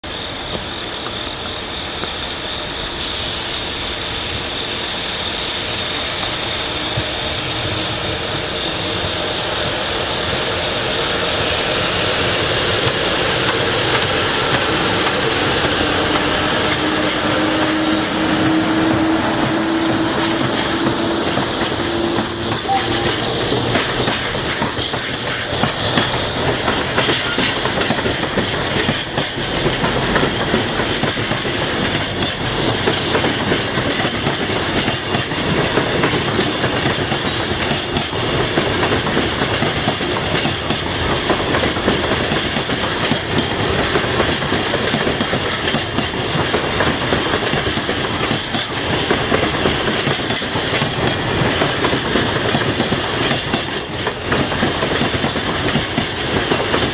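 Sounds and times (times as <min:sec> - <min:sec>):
freight train rolling past: 0:00.0 - 0:56.9.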